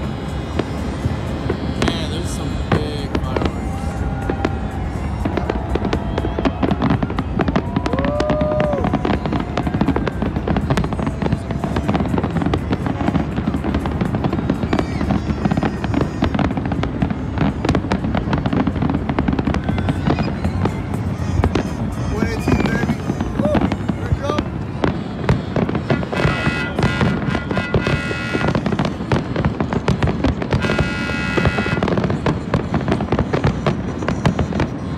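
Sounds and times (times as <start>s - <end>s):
fireworks crackling: 0.0s - 34.9s.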